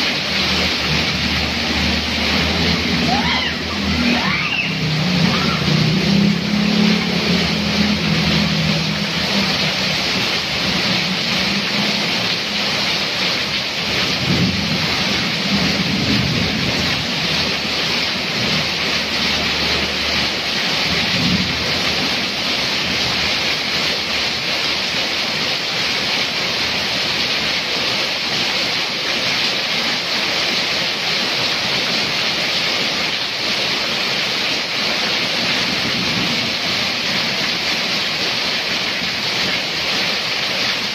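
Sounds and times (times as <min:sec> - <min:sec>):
heavy rain pouring: 0:00.0 - 0:40.9
motorbike passing through water: 0:00.0 - 0:40.9.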